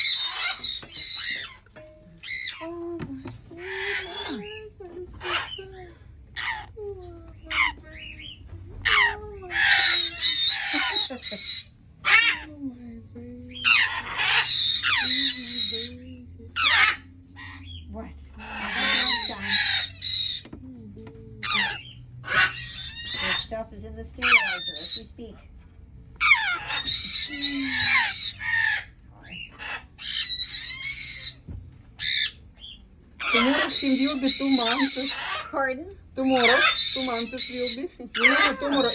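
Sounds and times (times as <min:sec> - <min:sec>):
parrot chick calling: 0:00.0 - 0:02.6, 0:03.6 - 0:06.8, 0:07.4 - 0:12.5, 0:13.6 - 0:16.0, 0:16.6 - 0:20.5, 0:21.4 - 0:23.6, 0:24.2 - 0:25.2, 0:26.2 - 0:38.9.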